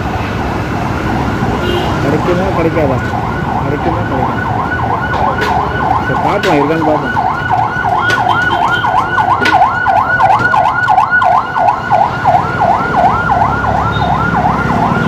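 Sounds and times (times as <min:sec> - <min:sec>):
road traffic rumble: 0:00.0 - 0:15.0
siren yelping: 0:00.4 - 0:15.0.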